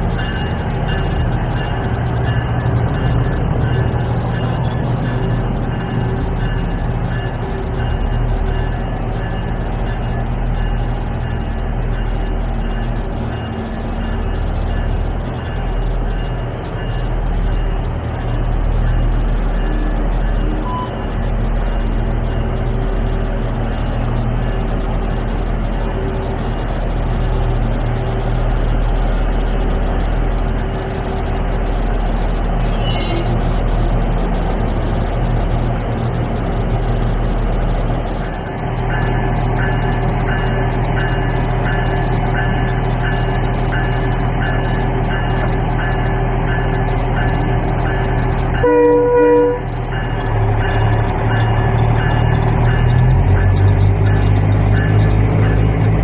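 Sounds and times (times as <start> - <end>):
train diesel engines rumbling: 0.0 - 56.0.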